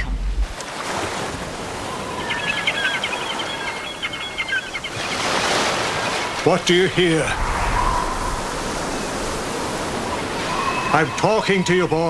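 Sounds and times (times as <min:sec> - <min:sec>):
ocean surf breaking on rocks: 0:00.6 - 0:12.0
birds chirping rapidly: 0:01.7 - 0:11.4.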